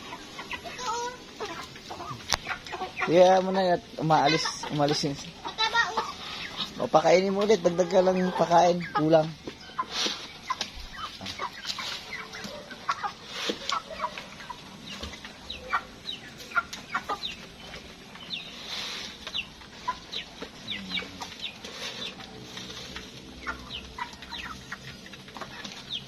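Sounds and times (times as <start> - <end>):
chickens clucking: 0.0 - 26.0
chicks peeping: 0.0 - 26.0.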